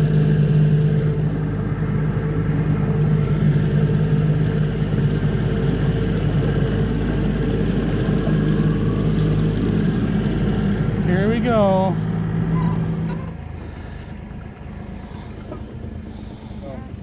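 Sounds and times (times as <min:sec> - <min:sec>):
outboard motor drone: 0:00.0 - 0:17.0.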